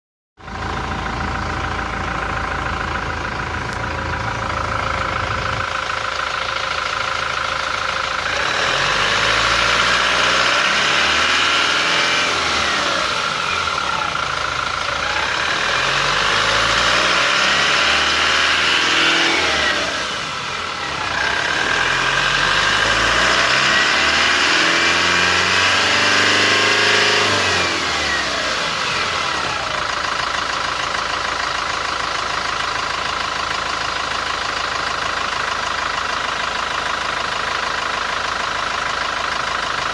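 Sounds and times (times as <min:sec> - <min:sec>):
diesel engine revving: 0:00.4 - 0:39.9.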